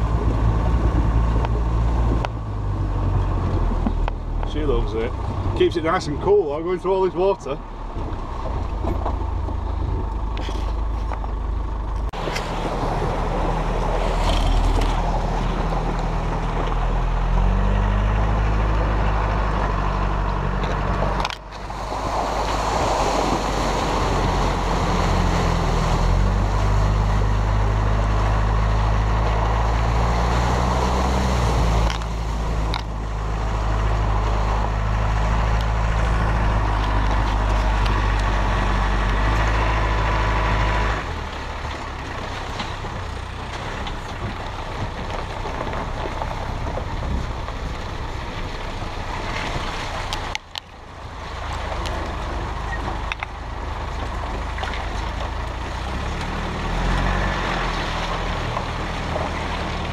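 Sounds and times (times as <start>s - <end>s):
tyre and wind noise: 0.0s - 6.0s, 7.8s - 59.9s
diesel engine under load: 0.0s - 59.9s.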